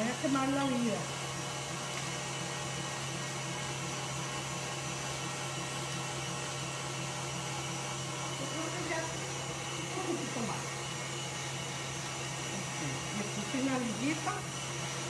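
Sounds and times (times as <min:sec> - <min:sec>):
stand mixer motor whirring: 0:00.0 - 0:15.0.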